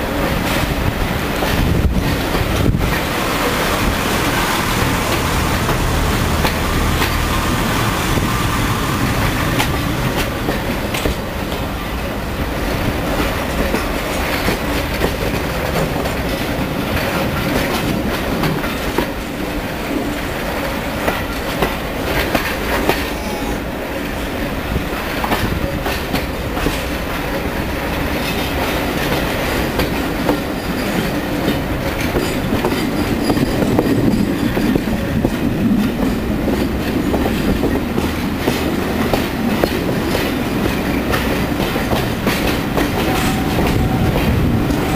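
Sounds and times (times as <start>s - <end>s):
train carriages rumbling: 0.0s - 44.9s
wheels clicking over rail joints: 0.1s - 23.3s, 24.0s - 44.9s.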